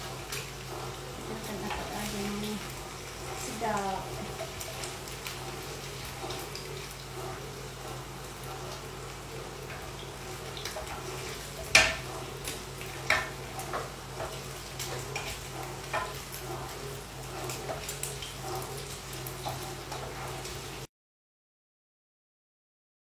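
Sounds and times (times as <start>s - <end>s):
wooden spatula scraping pan: 0.0s - 8.7s, 9.7s - 20.6s
meat sizzling in a pan: 0.0s - 20.9s.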